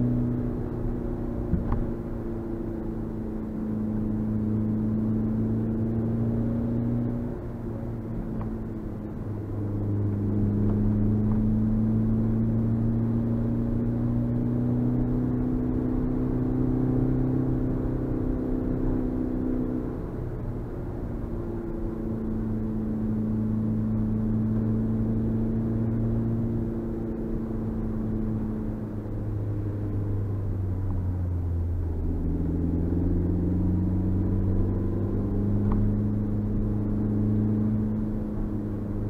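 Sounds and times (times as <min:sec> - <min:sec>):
car engine from inside cabin: 0:00.0 - 0:39.0.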